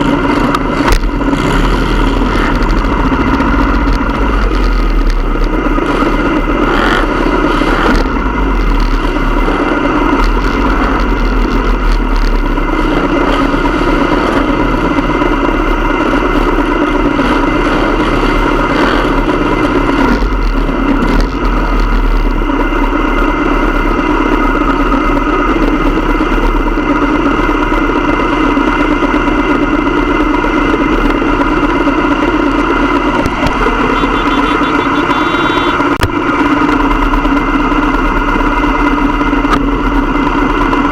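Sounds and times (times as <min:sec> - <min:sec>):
motorcycle engines running: 0:00.0 - 0:40.9.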